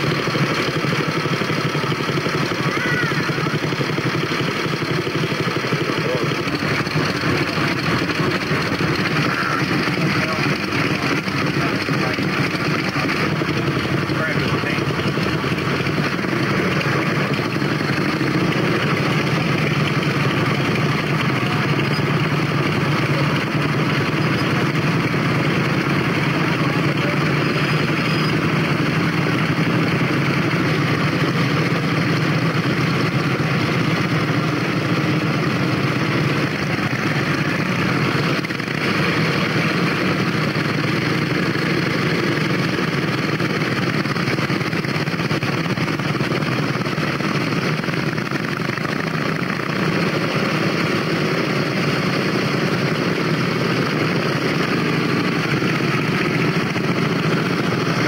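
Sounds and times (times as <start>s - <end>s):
motorcycle engines idling: 0.0s - 58.0s.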